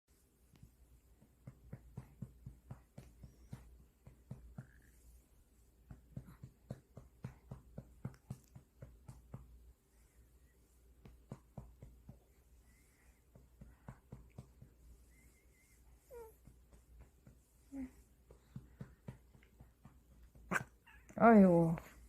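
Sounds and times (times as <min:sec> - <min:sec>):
soft pats on baby's back: 0:00.5 - 0:09.8, 0:10.6 - 0:22.0.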